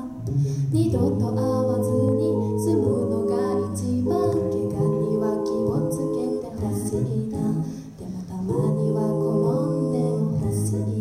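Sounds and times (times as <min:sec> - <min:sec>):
a cappella group singing: 0:00.0 - 0:11.0.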